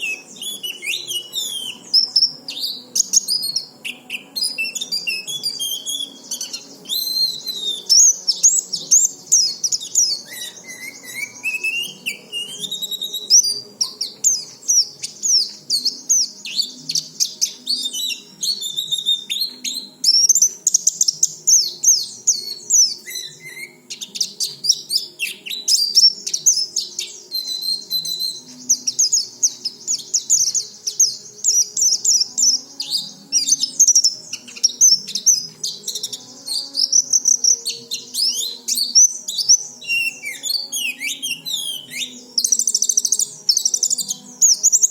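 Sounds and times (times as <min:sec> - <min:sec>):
bird singing high chirps: 0:00.0 - 0:44.9.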